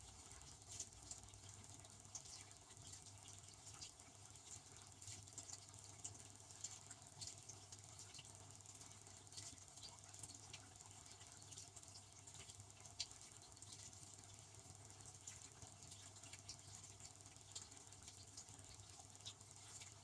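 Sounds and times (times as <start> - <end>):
pump hum: 0.0 - 20.0.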